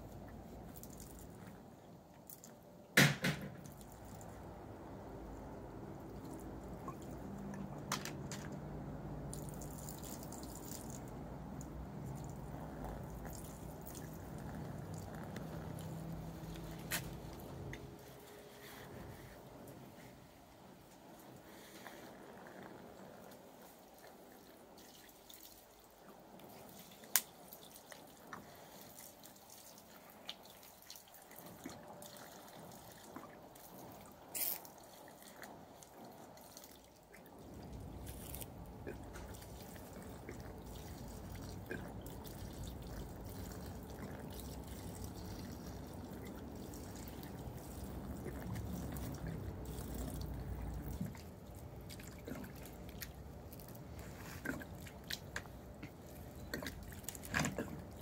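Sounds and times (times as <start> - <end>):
water trickling and dripping: 0.0 - 21.5, 23.2 - 58.0.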